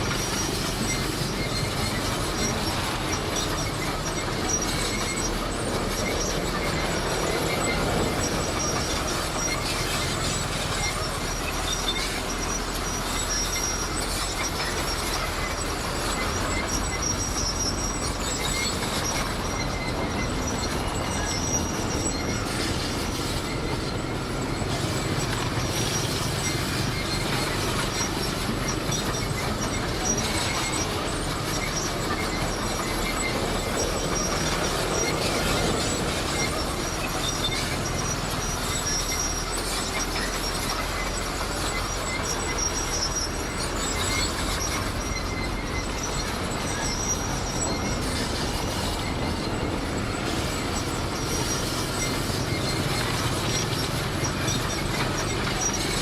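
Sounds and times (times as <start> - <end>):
bulldozer diesel engine running: 0.0 - 56.0
steel tracks squealing and clattering: 0.0 - 56.0.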